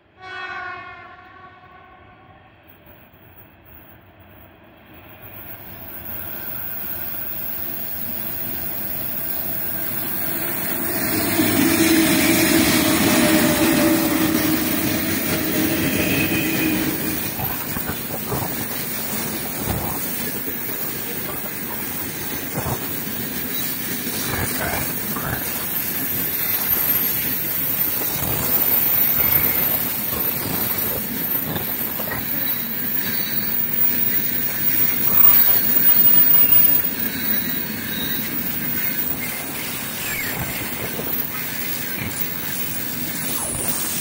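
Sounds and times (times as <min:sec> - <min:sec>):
electric locomotive hum: 0:00.0 - 0:44.0
wagon wheels clicking on rails: 0:05.0 - 0:44.0.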